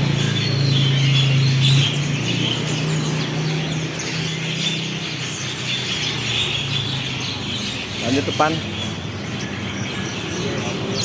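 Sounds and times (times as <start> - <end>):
songbirds chirping and twittering: 0.0 - 11.0.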